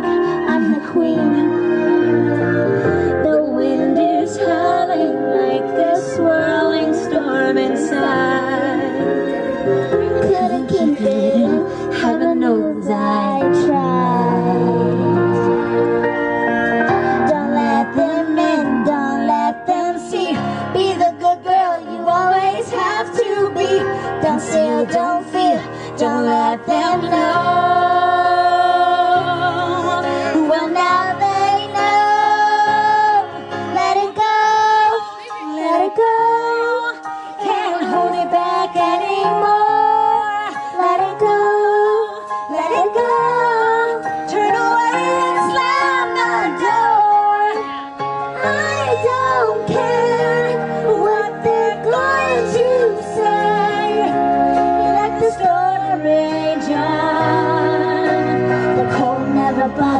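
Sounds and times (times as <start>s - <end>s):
girl singing into a microphone: 0.0s - 2.6s, 3.2s - 9.0s, 10.2s - 15.4s, 17.2s - 47.7s, 48.4s - 54.2s, 54.8s - 59.9s
music backing track: 0.0s - 59.9s.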